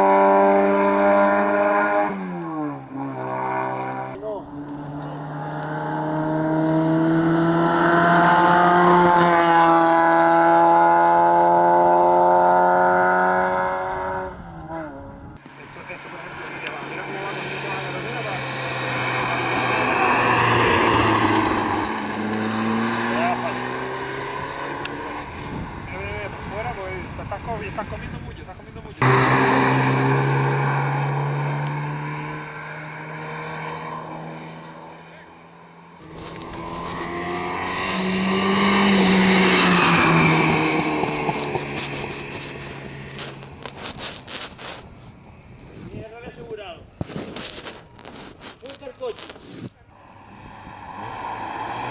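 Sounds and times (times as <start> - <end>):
rally car engine running: 2.8 - 44.8.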